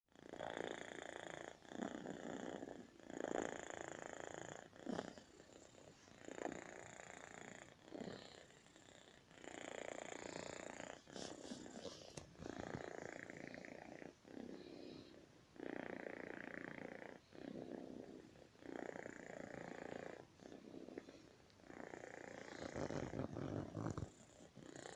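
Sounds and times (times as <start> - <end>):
cat snoring: 0.2 - 24.9.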